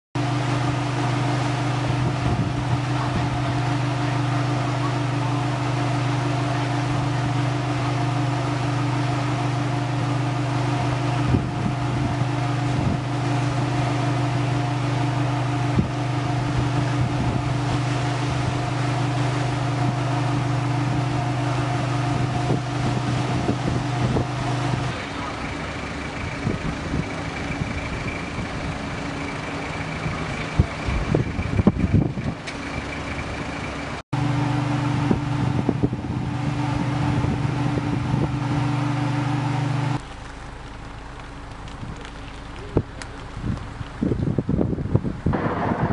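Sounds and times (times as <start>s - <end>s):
engine hum: 0.2s - 45.9s
rough vehicle noise: 0.2s - 45.9s.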